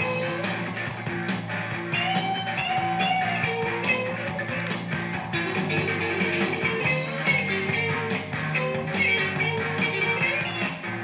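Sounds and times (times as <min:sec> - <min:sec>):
blues-rock record playing: 0:00.0 - 0:11.0.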